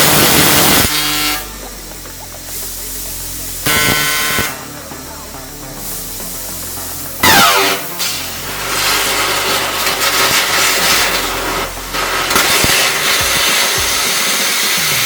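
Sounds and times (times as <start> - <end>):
laser cutting machine hissing: 0.0 - 15.0.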